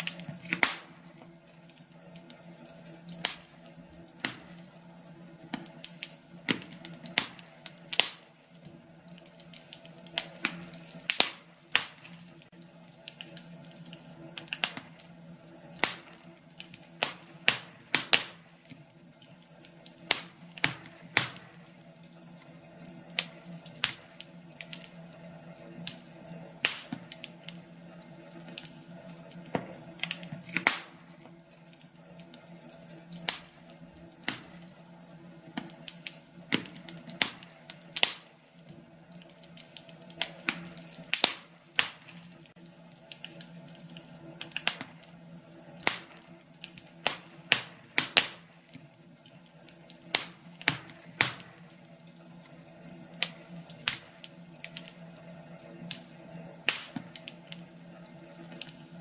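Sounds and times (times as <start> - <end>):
flames rushing: 0.0 - 59.0
wood fire crackling: 0.0 - 59.0.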